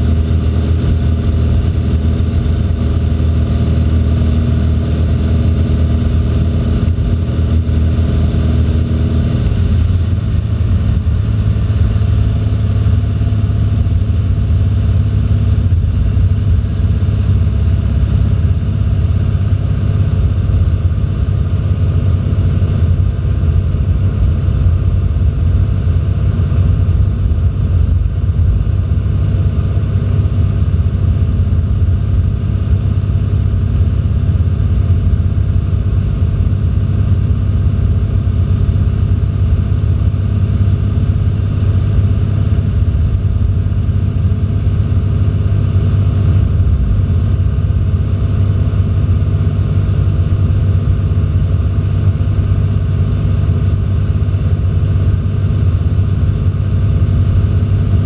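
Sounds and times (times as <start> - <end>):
airplane engine droning in cabin: 0.0 - 58.0.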